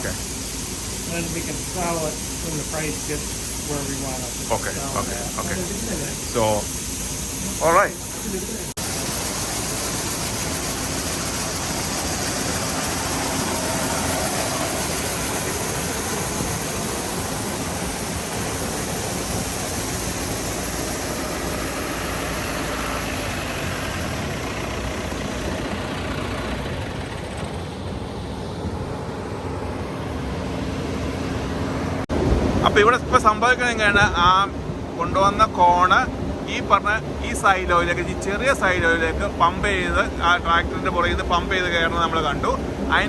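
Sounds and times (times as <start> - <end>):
grain-handling machinery running: 0.0 - 43.0.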